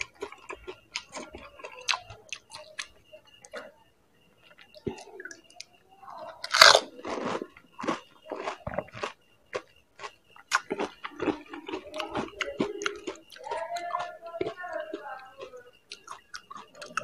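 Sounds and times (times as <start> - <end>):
crunchy food being chewed: 0.0 - 17.0.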